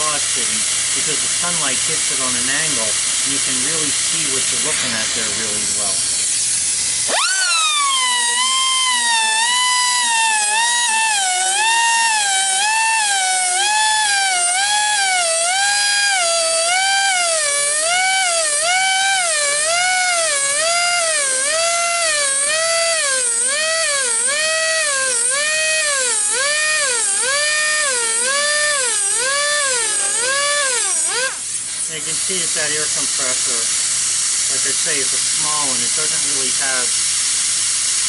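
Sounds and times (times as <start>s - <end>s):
air grinder whining: 0.0s - 38.0s.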